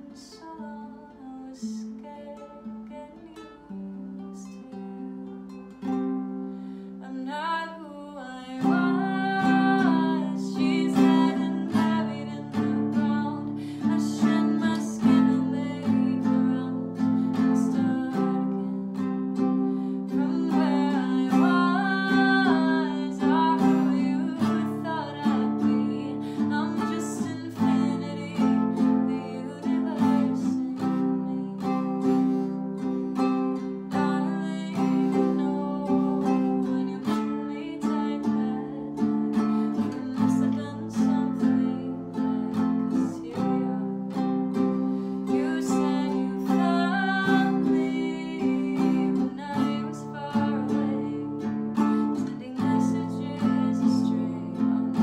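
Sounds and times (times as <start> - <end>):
person singing: 0.0 - 55.0.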